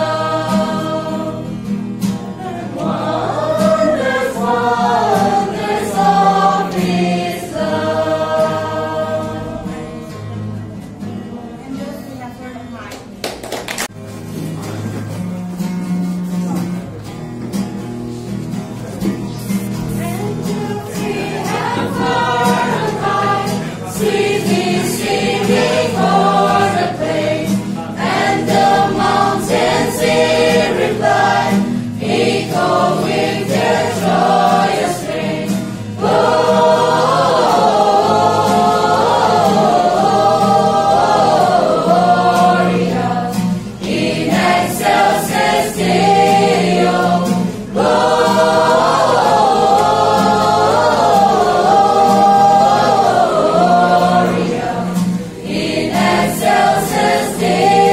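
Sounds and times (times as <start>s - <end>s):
group singing a carol: 0.0s - 11.1s, 18.8s - 57.9s
strummed acoustic guitar: 0.0s - 12.8s, 13.9s - 57.9s.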